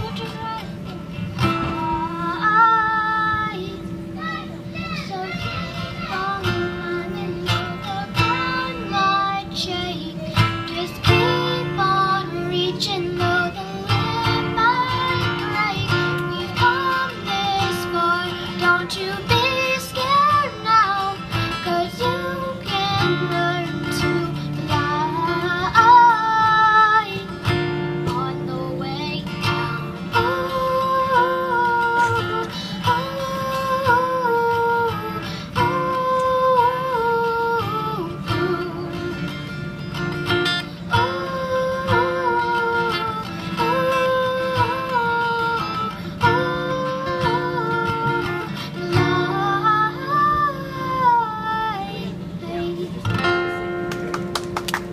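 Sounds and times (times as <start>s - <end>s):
girl singing into a microphone: 0.0s - 53.8s
acoustic guitar: 0.0s - 54.9s.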